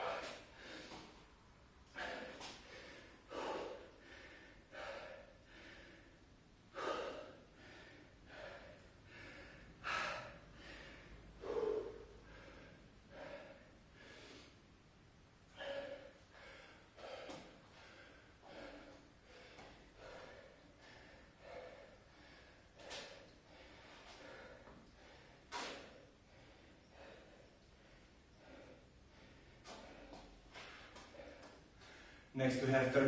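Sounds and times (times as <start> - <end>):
man breathing hard and gasping: 0.0 - 14.8, 15.5 - 32.4.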